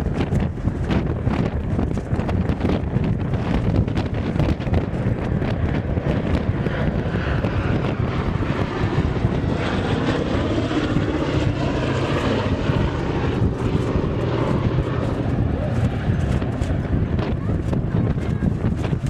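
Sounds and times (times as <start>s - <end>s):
aircraft engine flying past: 0.0s - 19.0s.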